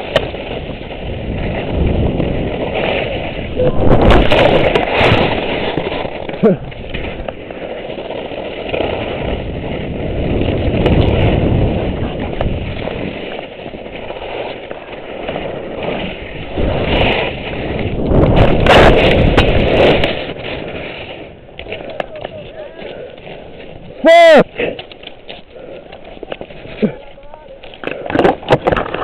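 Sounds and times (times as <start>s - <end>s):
skis rushing through snow: 0.0s - 29.0s
wind noise on microphone: 0.0s - 29.0s.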